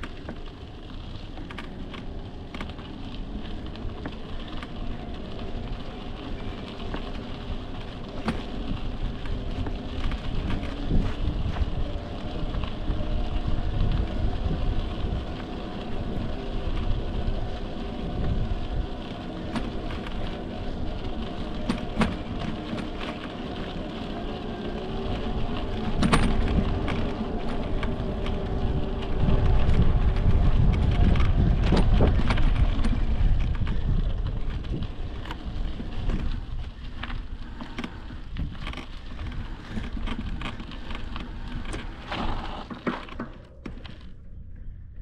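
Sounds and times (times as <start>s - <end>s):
tyres crackling on dirt: 0.0s - 45.0s
wind buffeting microphone: 2.6s - 45.0s.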